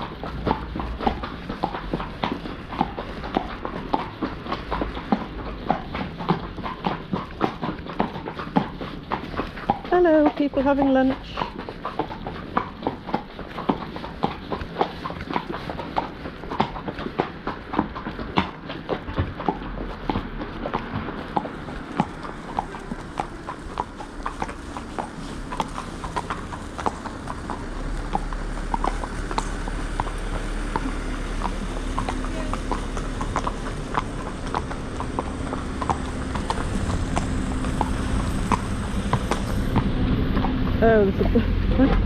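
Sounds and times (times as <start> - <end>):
horse hooves on hard road: 0.0 - 42.0.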